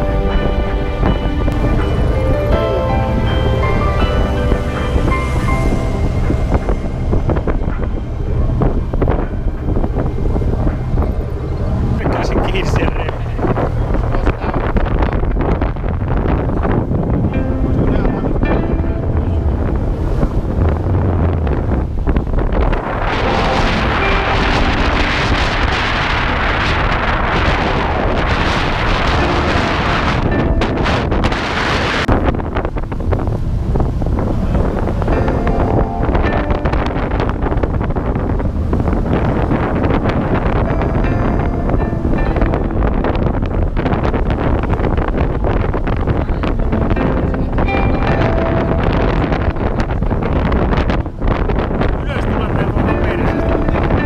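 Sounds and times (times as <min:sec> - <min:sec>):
water rushing past hull: 0:00.0 - 0:54.0
wind buffeting microphone: 0:00.0 - 0:54.0.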